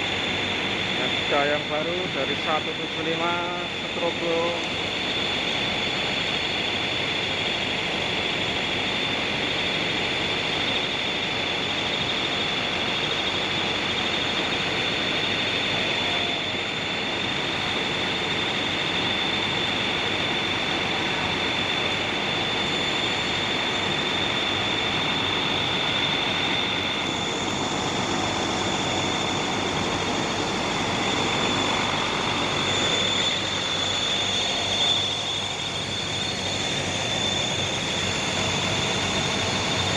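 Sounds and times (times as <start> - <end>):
thin high whine: 0.0 - 39.9.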